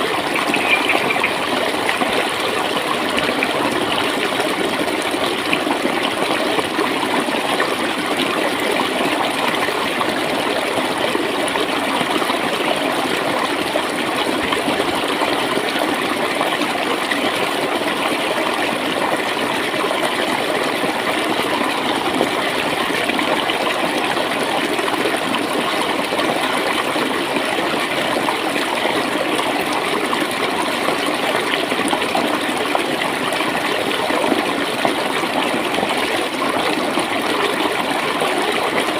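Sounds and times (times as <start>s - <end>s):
water flowing and gurgling: 0.0s - 38.9s.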